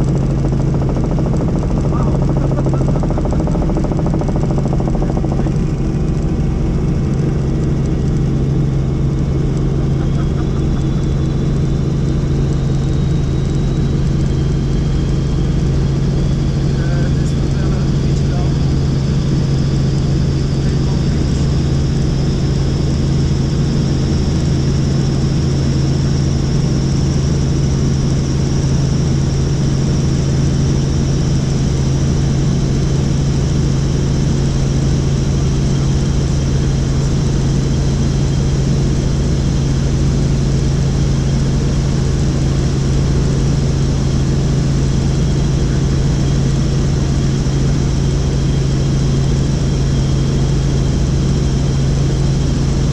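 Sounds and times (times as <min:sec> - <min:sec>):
helicopter rotor and engine drone: 0:00.0 - 0:52.9.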